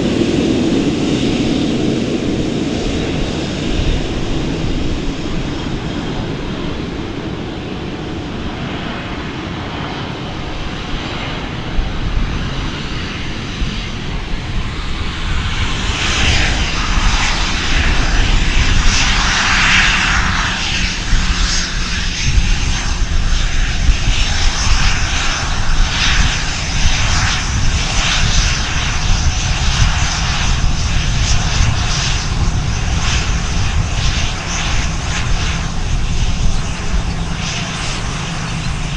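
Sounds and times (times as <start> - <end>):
airplane engines passing close: 0.0 - 38.9.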